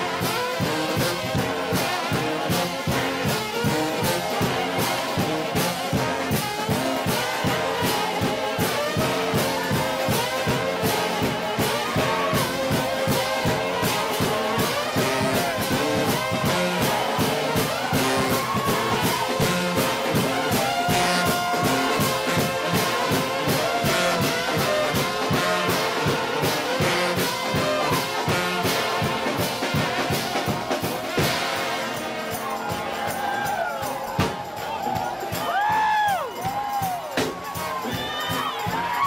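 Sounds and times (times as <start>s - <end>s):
brass band playing loud and fast: 0.0s - 39.0s
quick steady beat: 0.0s - 39.0s.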